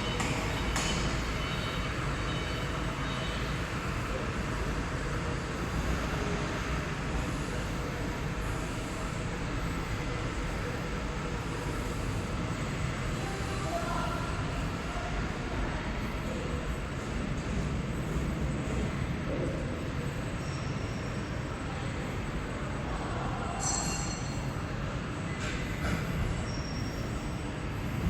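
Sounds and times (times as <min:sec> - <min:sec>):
factory machinery rumble and hiss: 0:00.0 - 0:28.0.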